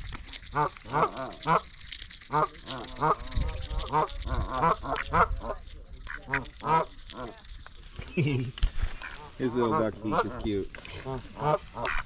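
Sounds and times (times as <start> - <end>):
waterfowl quacking and honking: 0.5 - 7.3, 8.9 - 12.0.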